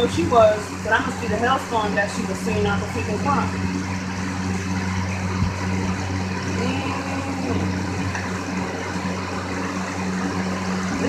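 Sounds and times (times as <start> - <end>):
car idling: 0.0 - 11.0.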